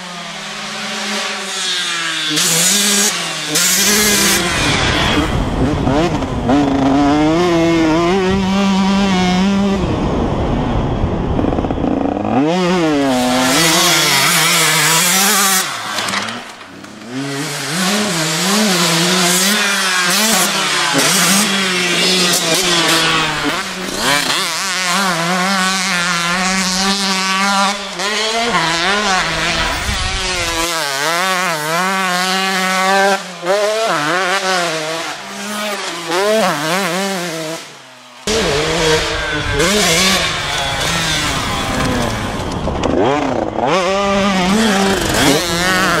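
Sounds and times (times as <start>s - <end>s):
small motorcycle engines revving: 0.0s - 46.0s.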